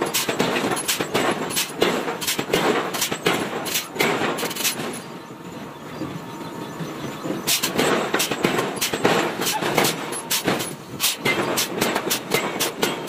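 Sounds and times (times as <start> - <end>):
sharp metal clanks and knocks: 0.0 - 5.1, 7.5 - 13.0.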